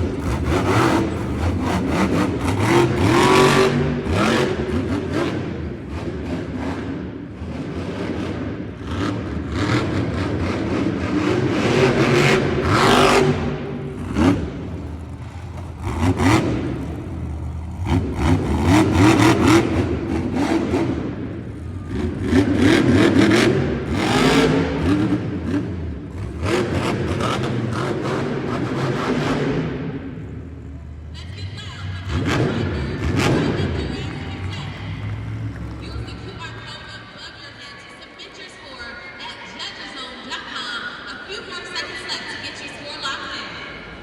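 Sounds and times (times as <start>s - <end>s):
truck engine revving hard: 0.0s - 36.8s.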